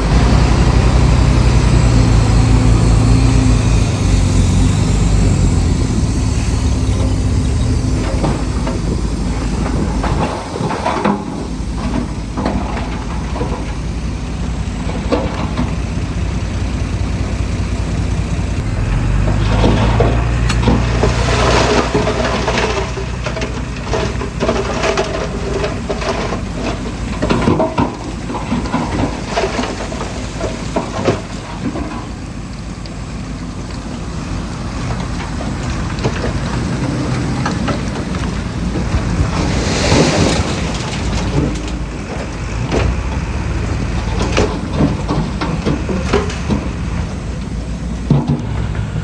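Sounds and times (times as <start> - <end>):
diesel machinery running: 0.0 - 49.0.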